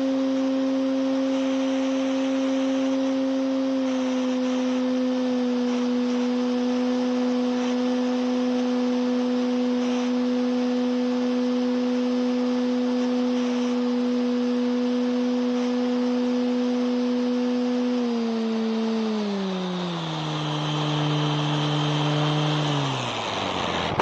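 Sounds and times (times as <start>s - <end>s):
model plane motor whine: 0.0s - 24.0s.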